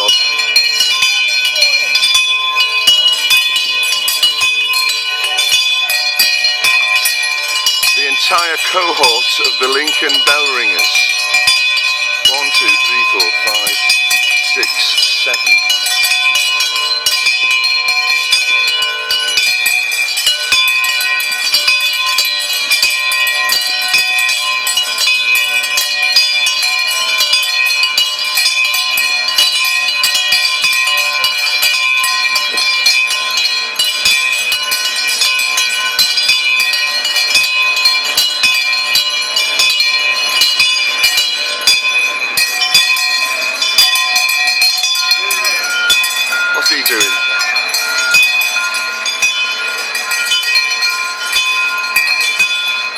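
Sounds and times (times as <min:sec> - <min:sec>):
many bells clanging: 0:00.0 - 0:52.9.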